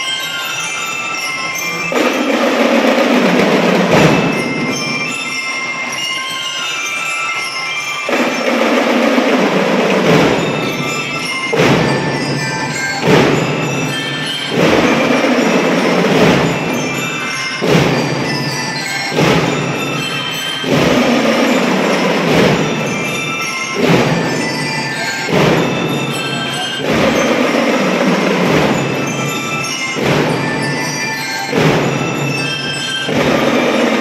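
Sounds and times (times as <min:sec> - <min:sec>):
bell lyre melody: 0:00.0 - 0:34.0
marching drums: 0:01.5 - 0:06.8, 0:08.1 - 0:34.0.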